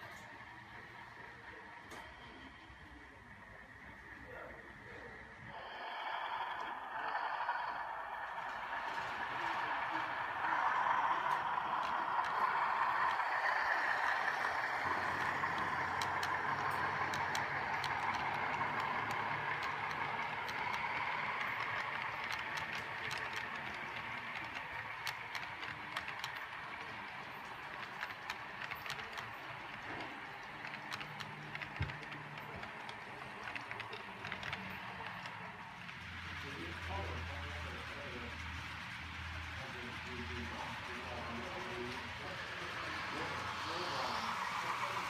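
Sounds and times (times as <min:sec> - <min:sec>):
model diesel train running: 0:00.0 - 0:45.0
wheels clicking on rails: 0:00.0 - 0:45.0.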